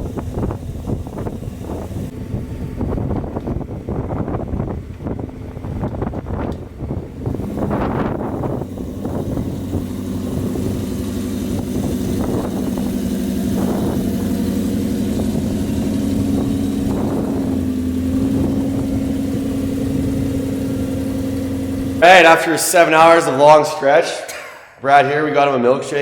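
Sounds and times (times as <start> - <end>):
vehicle engine idling: 0.0 - 23.7.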